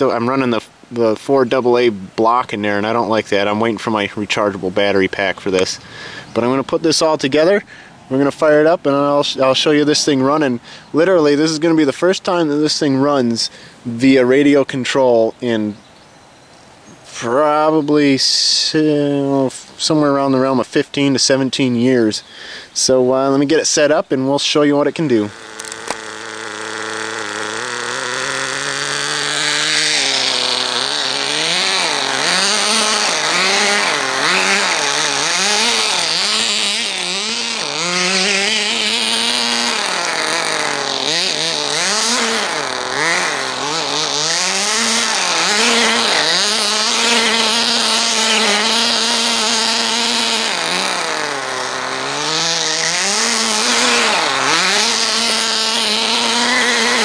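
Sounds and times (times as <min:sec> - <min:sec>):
small engine revving: 0:00.0 - 0:15.8, 0:16.9 - 0:57.0.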